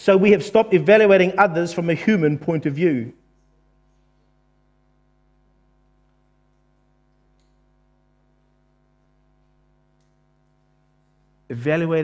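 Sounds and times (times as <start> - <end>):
faint mains hum: 0.0 - 12.0.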